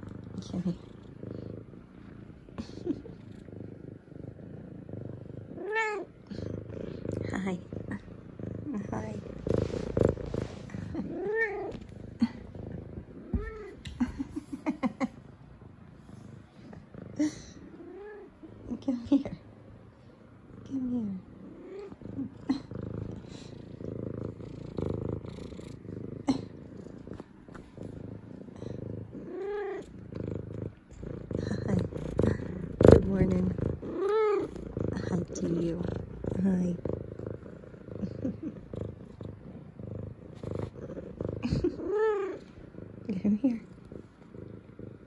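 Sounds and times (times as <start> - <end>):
cat purring: 0.0 - 45.0.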